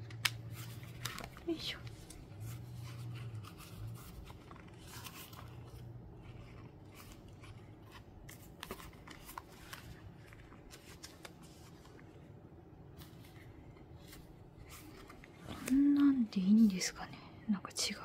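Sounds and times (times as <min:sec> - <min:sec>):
paper rustling: 0:00.0 - 0:12.3, 0:12.9 - 0:16.8.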